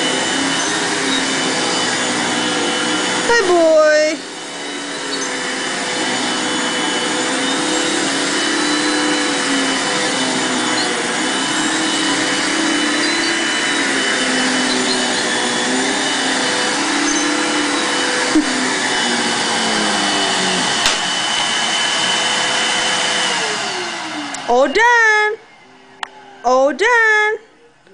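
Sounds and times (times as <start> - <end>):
vacuum cleaner running on carpet: 0.0 - 26.4.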